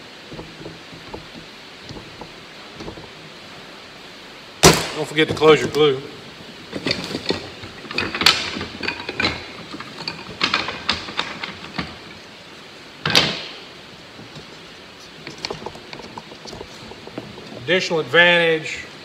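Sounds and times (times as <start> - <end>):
wooden frame bars clattering: 0.0 - 3.8, 4.6 - 12.4, 13.0 - 17.9.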